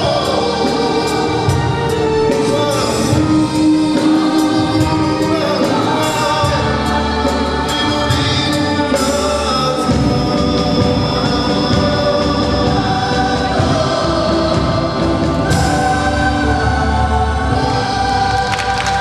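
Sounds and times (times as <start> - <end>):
band playing: 0.0 - 19.0
choir singing: 0.0 - 19.0
cymbals keeping beat: 0.0 - 19.0.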